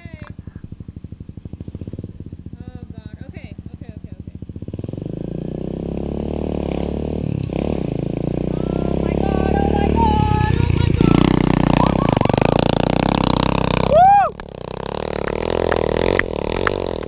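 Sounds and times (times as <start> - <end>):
motorbike riding off: 0.0 - 17.0
small motorbike engine running: 0.0 - 17.0.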